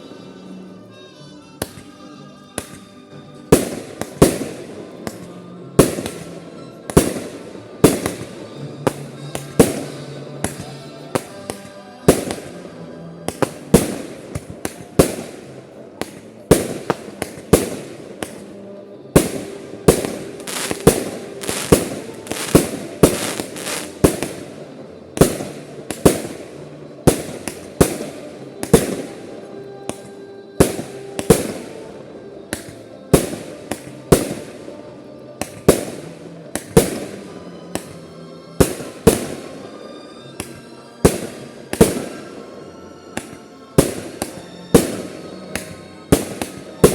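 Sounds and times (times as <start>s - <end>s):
fireworks bursting: 1.6s - 46.9s.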